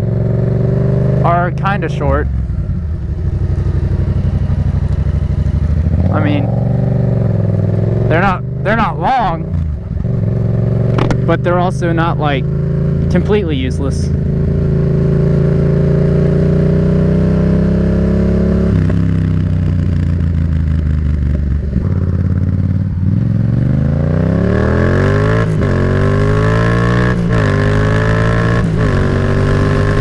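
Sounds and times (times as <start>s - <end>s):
engine upshifts: 0.0s - 20.3s, 21.1s - 30.0s
motorcycle engine accelerating: 0.0s - 30.0s.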